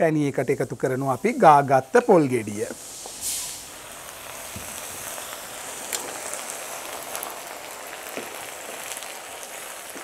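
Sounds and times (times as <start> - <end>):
sugar syrup sizzling and bubbling: 0.0 - 10.0.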